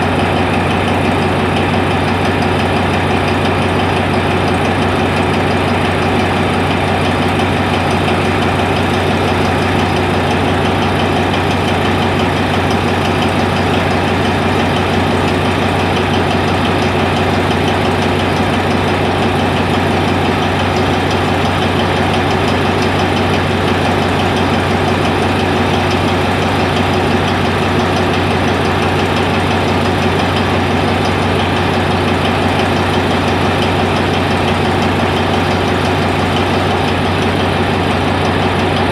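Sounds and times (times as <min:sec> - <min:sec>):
diesel locomotive engine idling: 0:00.0 - 0:38.9.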